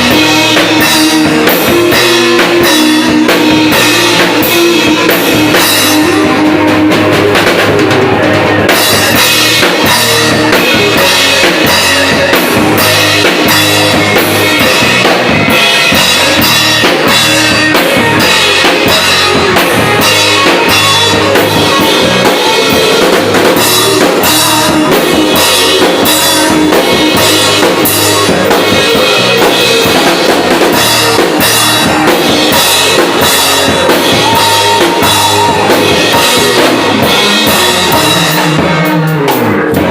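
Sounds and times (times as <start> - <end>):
drum kit beating: 0.0 - 39.9
rock band playing: 0.0 - 39.9.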